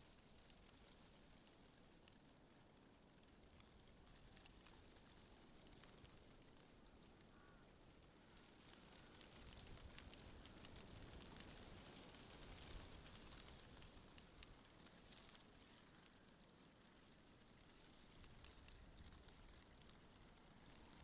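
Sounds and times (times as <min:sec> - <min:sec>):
small crackling ticks: 0:00.0 - 0:21.0
wind rustling tree leaves: 0:00.3 - 0:21.0.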